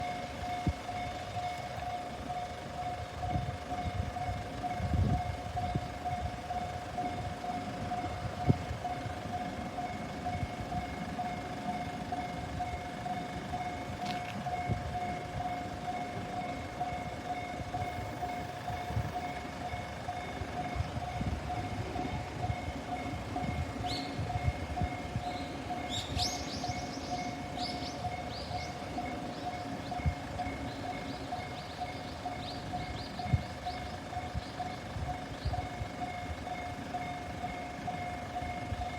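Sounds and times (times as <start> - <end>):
electronic warning bell ringing: 0.0 - 33.5.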